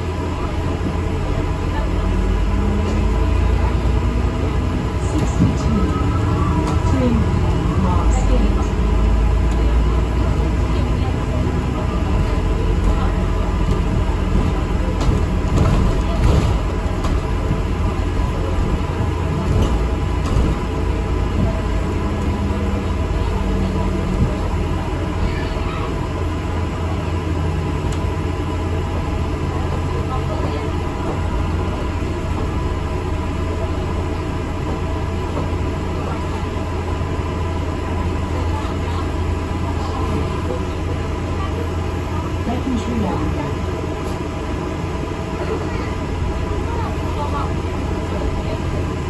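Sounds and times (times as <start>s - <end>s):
bus engine rumble: 0.0s - 49.0s
road noise: 0.0s - 49.0s.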